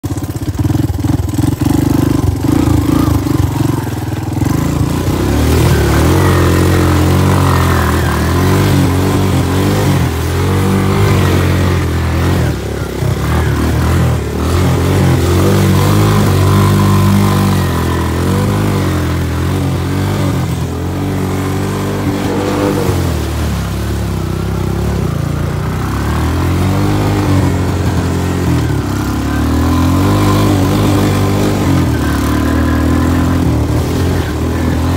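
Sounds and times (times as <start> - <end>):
off-road engine revving: 0.0 - 34.9.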